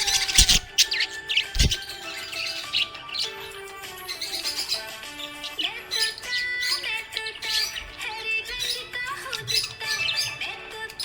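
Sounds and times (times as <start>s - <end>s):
background music: 0.0s - 11.0s
budgerigar chirping: 0.0s - 11.0s.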